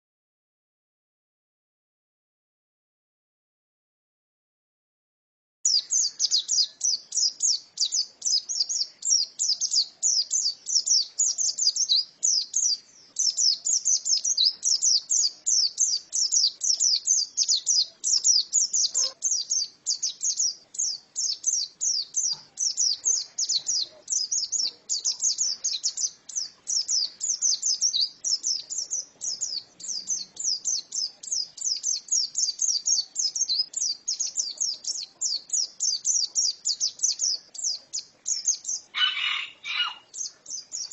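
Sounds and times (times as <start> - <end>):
bird twittering song: 5.7 - 40.9.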